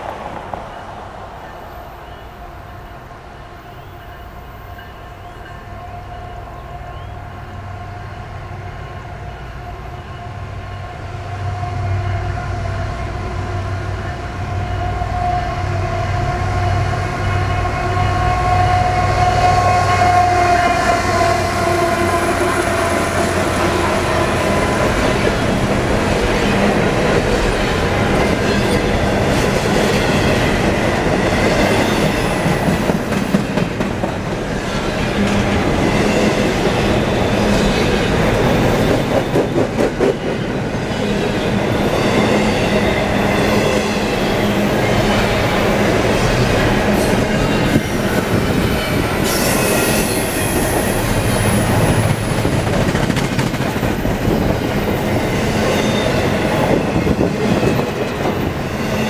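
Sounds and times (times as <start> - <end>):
diesel locomotives rumbling: 0.0 - 59.0.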